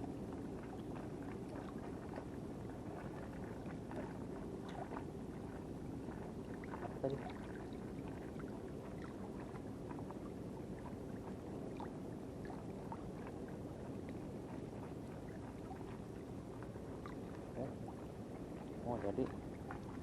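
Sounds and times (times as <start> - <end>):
seawater lapping: 0.0 - 20.0.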